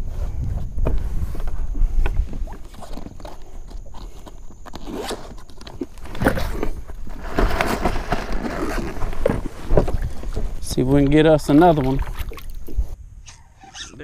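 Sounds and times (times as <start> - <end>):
cloth rustling against microphone: 0.0 - 13.0.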